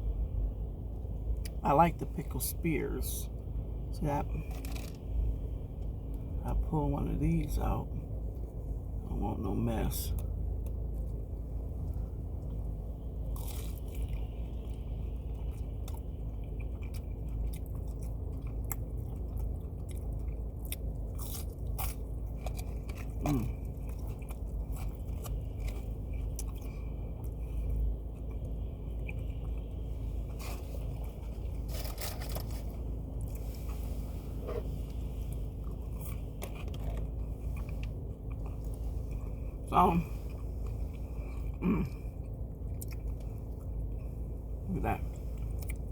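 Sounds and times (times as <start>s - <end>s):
car interior hum: 0.0s - 45.9s
chewing and crunching fried food: 0.8s - 6.4s, 7.4s - 45.9s.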